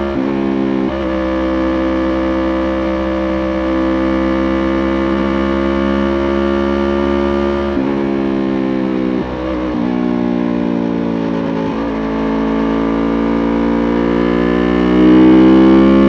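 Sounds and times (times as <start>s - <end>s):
motorcycle engine at high revs: 0.0s - 16.0s.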